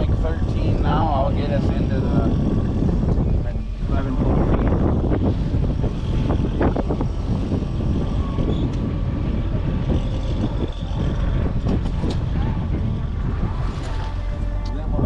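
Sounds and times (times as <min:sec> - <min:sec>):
boat motor rumbling: 0:00.0 - 0:15.0
wind buffeting microphone: 0:00.0 - 0:15.0.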